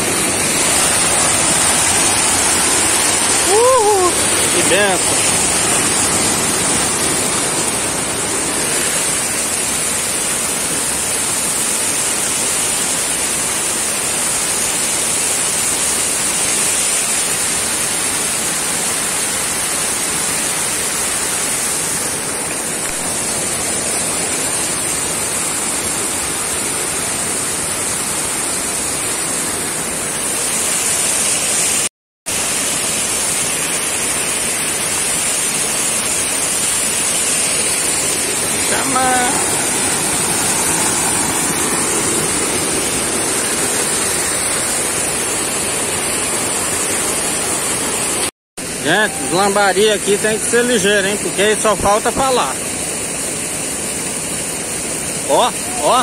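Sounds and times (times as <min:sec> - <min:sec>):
water rushing in a ditch: 0:00.0 - 0:56.0.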